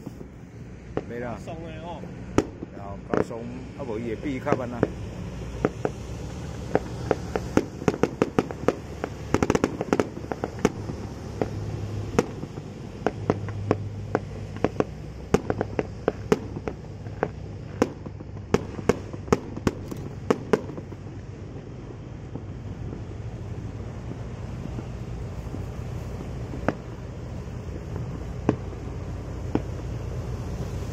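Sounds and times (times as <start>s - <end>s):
firecrackers cracking: 0.0s - 30.9s.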